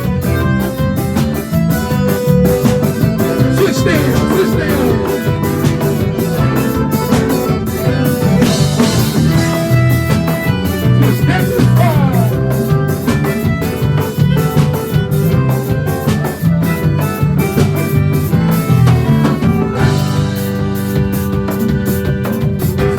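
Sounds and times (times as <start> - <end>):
drum kit steady beat: 0.0 - 22.9
guitar: 0.0 - 22.9.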